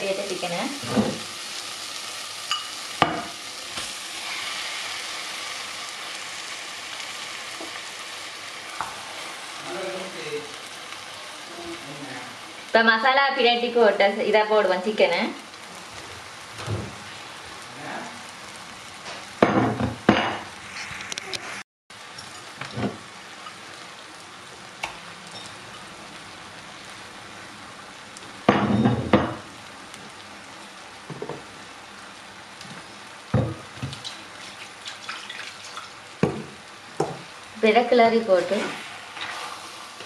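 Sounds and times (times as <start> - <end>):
food sizzling in a pot: 0.0 - 40.0.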